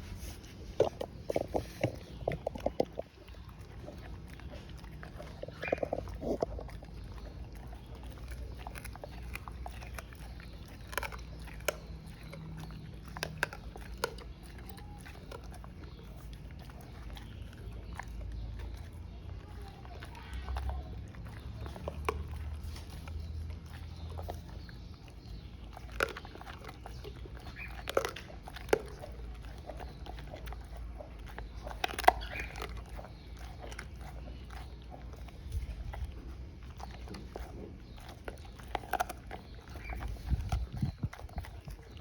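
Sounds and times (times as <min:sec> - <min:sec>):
dog chewing with crunches: 0:00.0 - 0:42.0.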